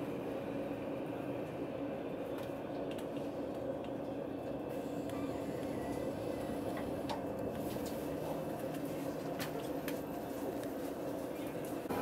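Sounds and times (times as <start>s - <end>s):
passenger train humming: 0.0s - 12.0s.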